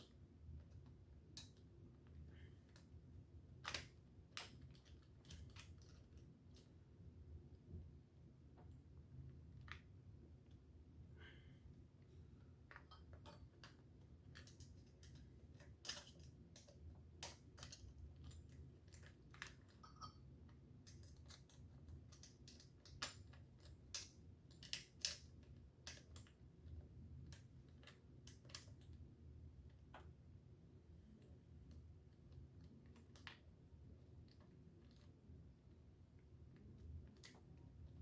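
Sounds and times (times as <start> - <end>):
faint low hum: 0.0 - 38.0.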